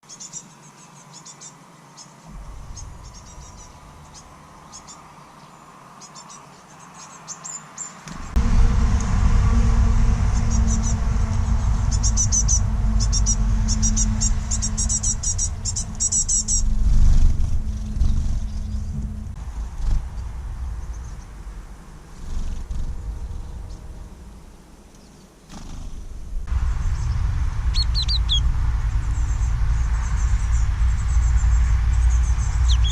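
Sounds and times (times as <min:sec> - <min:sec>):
small songbirds chirping: 0:00.0 - 0:08.4, 0:10.4 - 0:32.9
loud low rumble: 0:02.3 - 0:05.4, 0:08.1 - 0:25.0, 0:25.8 - 0:32.9.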